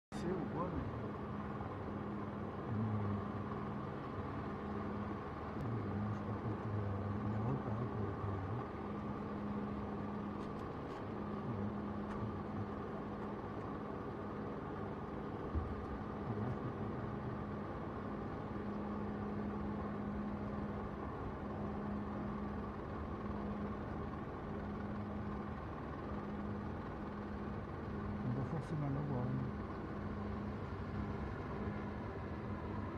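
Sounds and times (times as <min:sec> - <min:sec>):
jet engines idling: 0:00.2 - 0:32.9.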